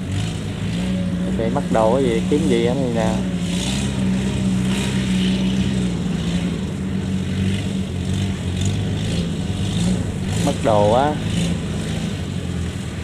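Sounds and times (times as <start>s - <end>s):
combine harvester diesel engine: 0.0s - 13.0s.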